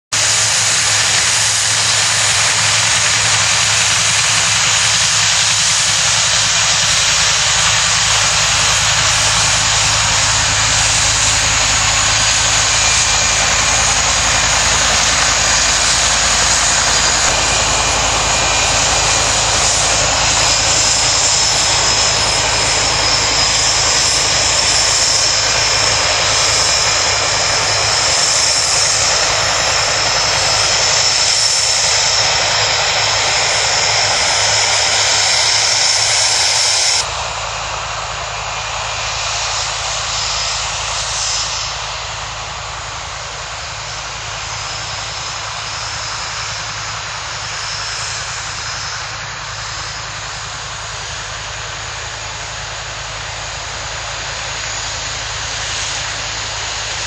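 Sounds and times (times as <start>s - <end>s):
loud steady rushing noise: 0.1s - 57.0s
faint high whine: 0.2s - 57.0s.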